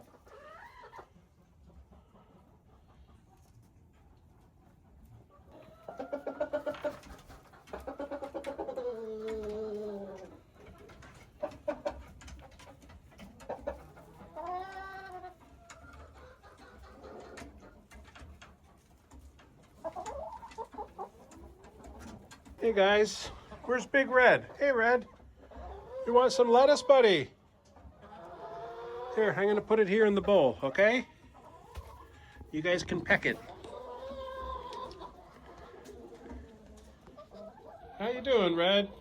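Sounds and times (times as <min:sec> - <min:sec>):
chickens clucking and calling: 0:00.0 - 0:39.0.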